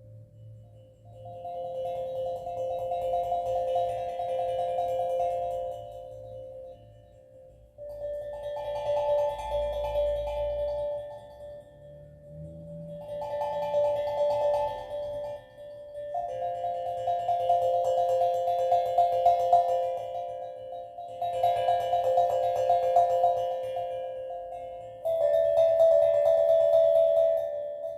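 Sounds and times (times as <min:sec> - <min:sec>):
steel drum ringing notes: 0:00.0 - 0:27.9.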